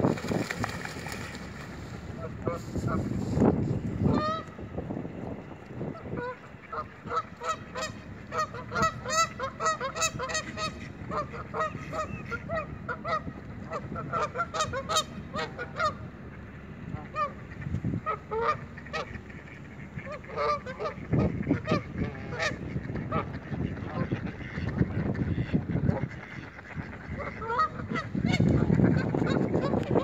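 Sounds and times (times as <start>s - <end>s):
geese honking: 0.0s - 4.8s, 5.7s - 30.0s.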